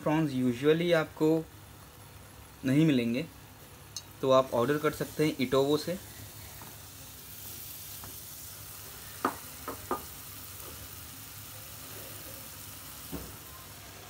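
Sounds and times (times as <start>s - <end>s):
gravy sizzling in a pan: 0.0s - 14.0s.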